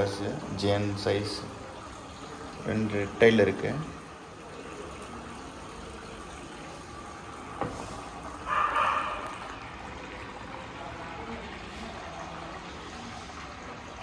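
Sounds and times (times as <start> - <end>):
aquarium air bubbling: 0.0 - 14.0.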